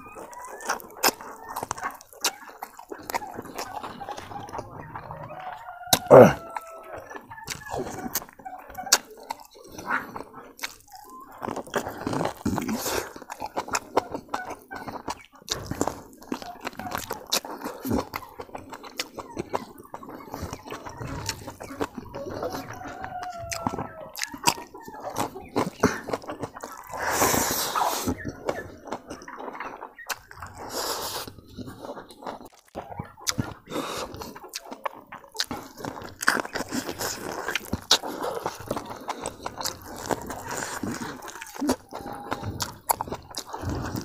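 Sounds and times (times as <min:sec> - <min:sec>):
wet chewing and lip-smacking: 0:00.0 - 0:44.0.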